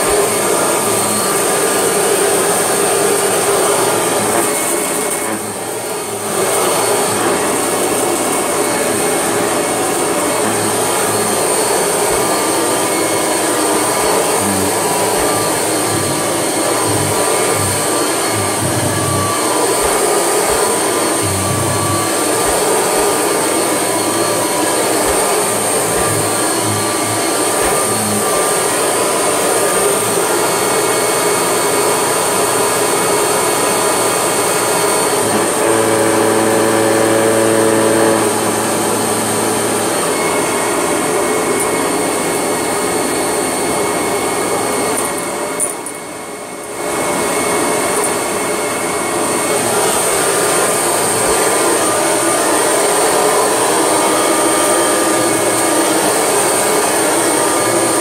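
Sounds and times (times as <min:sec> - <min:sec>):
upright vacuum whining on carpet: 0:00.0 - 0:58.0.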